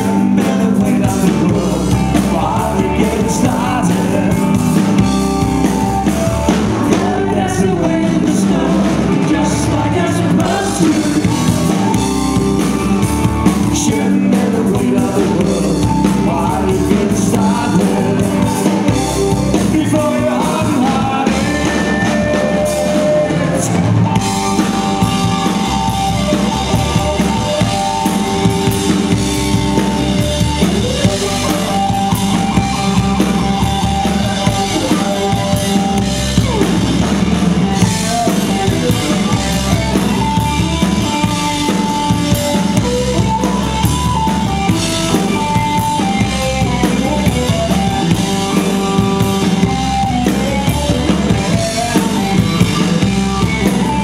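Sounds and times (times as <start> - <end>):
bass guitar: 0.0 - 54.0
drum kit: 0.0 - 54.0
electric guitar: 0.0 - 54.0
person singing: 0.0 - 54.0.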